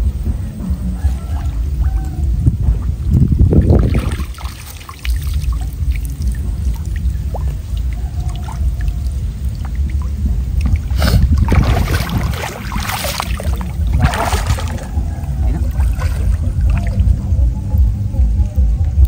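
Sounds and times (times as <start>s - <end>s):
water splashing and sloshing: 0.0s - 17.9s
steady low rumble: 0.0s - 19.0s.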